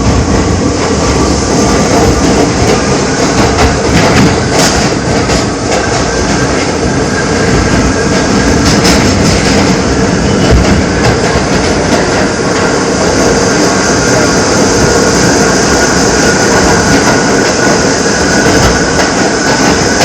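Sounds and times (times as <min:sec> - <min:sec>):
train wheel and rail noise: 0:00.0 - 0:20.0.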